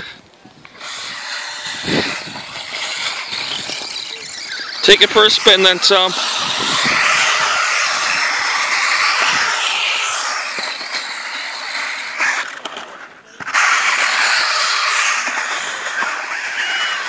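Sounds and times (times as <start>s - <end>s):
toy car electric motor whining: 0.7s - 17.0s.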